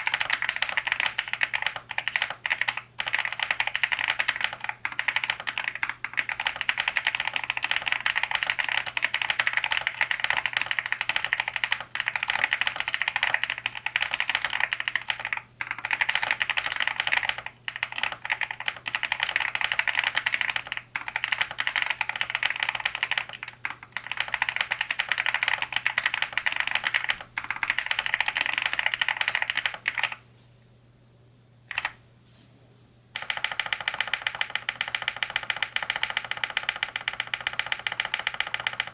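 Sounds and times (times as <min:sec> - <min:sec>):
typing on mechanical keyboard: 0:00.0 - 0:30.2, 0:31.7 - 0:32.0, 0:33.2 - 0:38.9.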